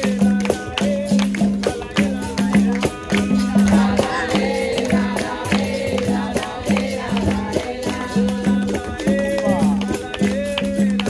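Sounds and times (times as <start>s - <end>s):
berimbau rhythmic figure: 0.0s - 11.0s
group of voices singing: 0.0s - 11.0s.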